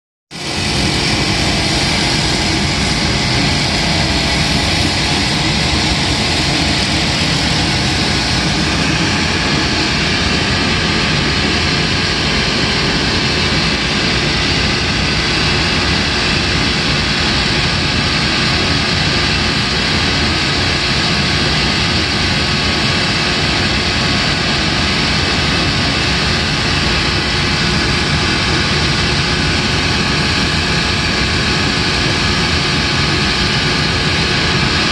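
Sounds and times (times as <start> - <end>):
machine whirring: 0.4 - 34.9.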